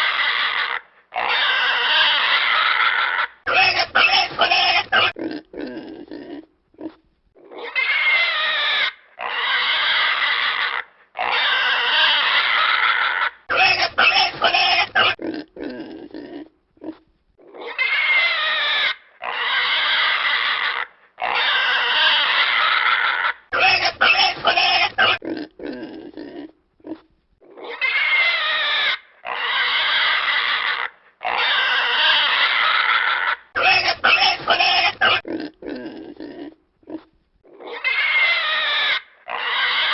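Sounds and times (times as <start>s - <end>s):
pig grunting: 0.0s - 39.9s
pig squealing: 0.0s - 39.9s.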